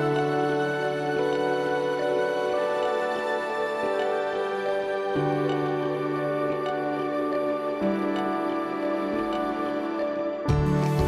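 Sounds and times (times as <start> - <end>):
instrumental music with held chords: 0.0 - 11.0.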